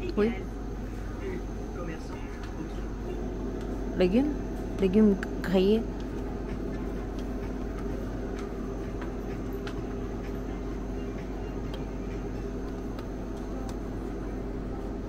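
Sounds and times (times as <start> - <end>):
refrigeration hum: 0.0 - 15.0.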